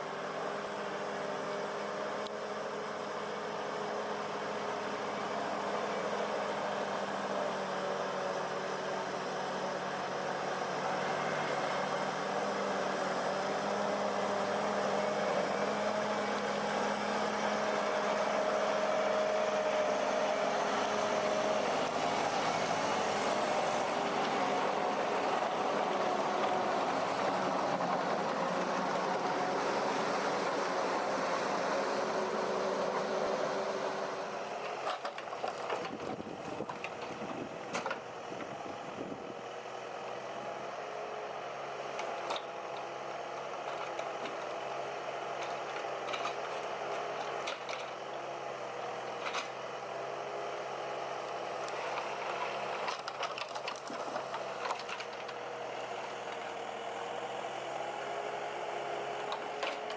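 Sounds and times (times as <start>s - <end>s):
heavy equipment engine running: 0.0s - 59.9s.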